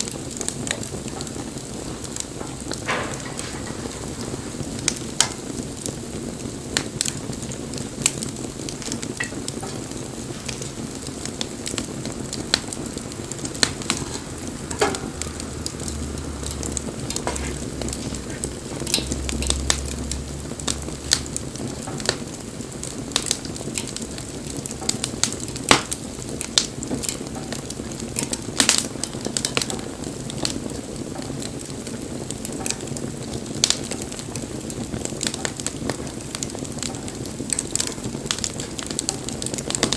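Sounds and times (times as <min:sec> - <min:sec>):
bonfire crackling and popping: 0:00.0 - 0:39.9
fire hissing: 0:00.0 - 0:39.9.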